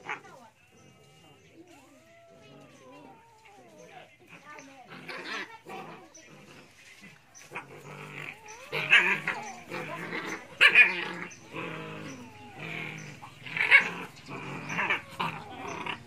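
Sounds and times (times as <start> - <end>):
animal calling: 0.0 - 16.0.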